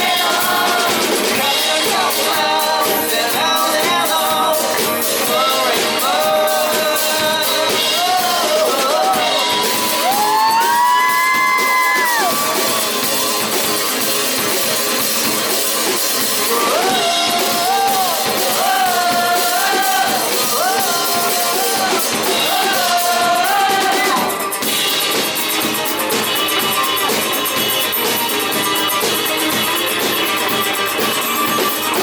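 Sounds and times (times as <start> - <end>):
drum kit: 0.0 - 32.0
live rock band playing: 0.0 - 32.0
sliding melody line: 0.0 - 32.0.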